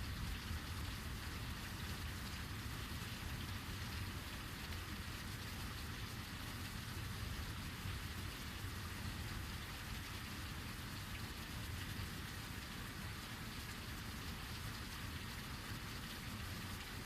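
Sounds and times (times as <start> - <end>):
heavy rain falling: 0.0 - 17.0
low continuous rumble: 0.0 - 17.0.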